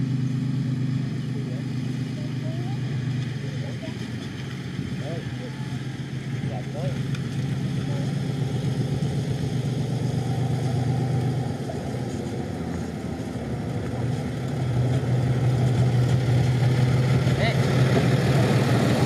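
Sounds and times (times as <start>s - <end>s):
truck diesel engine approaching: 0.0s - 19.0s.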